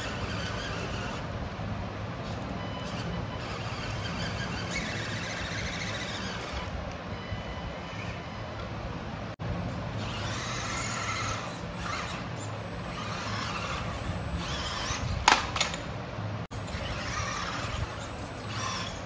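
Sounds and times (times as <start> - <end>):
rc truck motor whine: 0.0 - 1.4, 2.2 - 8.4, 9.4 - 19.0.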